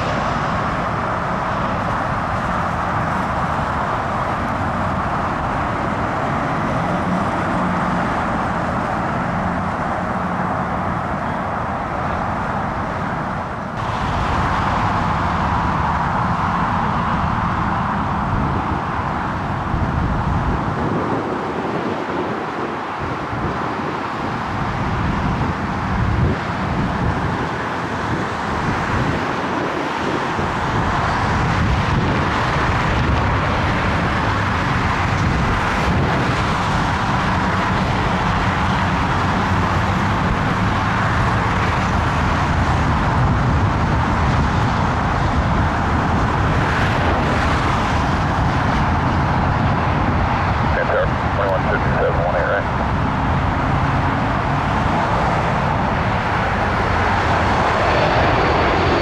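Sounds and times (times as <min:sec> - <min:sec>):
gusty wind buffeting microphone: 0:00.0 - 0:59.0
steady rushing noise: 0:00.0 - 0:59.0.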